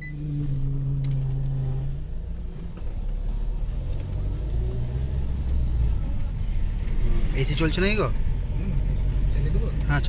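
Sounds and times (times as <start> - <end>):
car engine running: 0.0 - 10.0
road rumble: 0.0 - 10.0.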